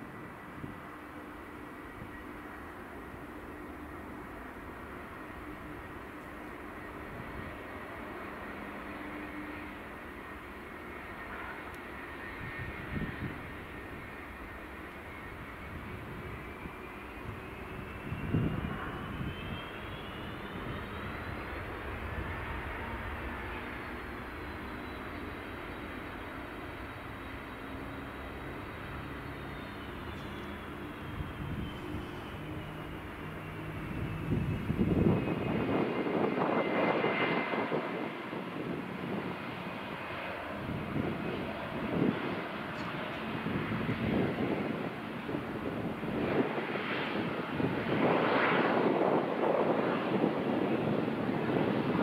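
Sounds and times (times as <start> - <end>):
jet engines whining: 0.0 - 52.0.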